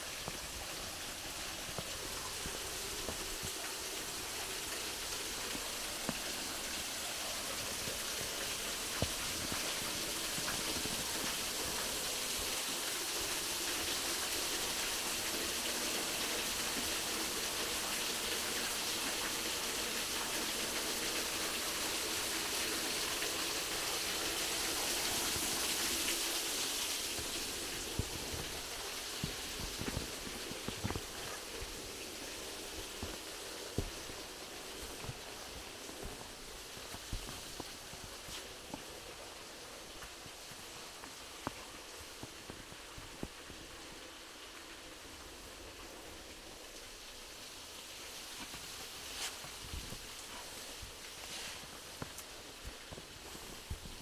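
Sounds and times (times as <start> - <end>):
water rushing hiss: 0.0 - 54.0.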